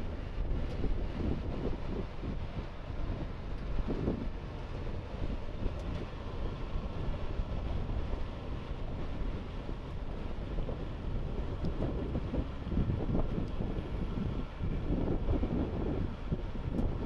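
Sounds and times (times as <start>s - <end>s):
tracked vehicle heavy rumble: 0.0s - 17.0s.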